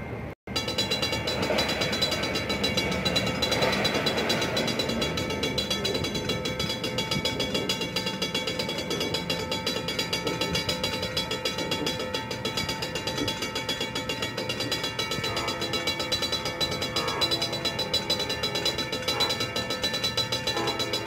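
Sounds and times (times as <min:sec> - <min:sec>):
railroad crossing bell ringing: 0:00.5 - 0:21.0.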